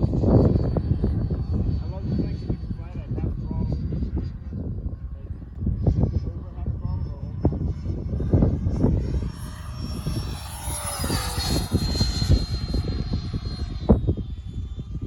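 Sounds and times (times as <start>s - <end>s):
electric jet whine flying past: 0.0s - 15.0s
wind buffeting microphone: 0.0s - 15.0s.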